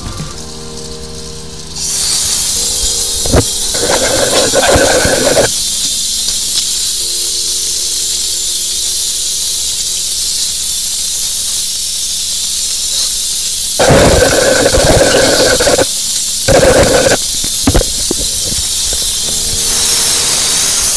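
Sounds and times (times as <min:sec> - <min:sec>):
water jet hissing in drain: 0:01.8 - 0:20.9.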